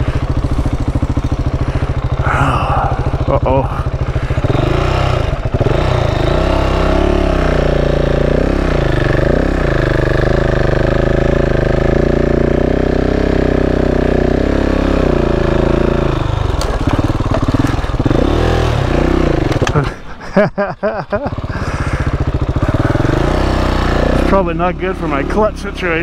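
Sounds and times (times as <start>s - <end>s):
motorcycle engine under load: 0.0s - 26.0s.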